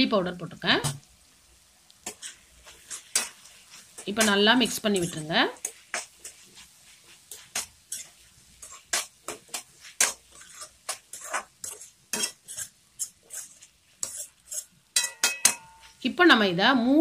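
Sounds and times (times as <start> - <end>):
metal spoon scraping steel pan: 2.0 - 16.0.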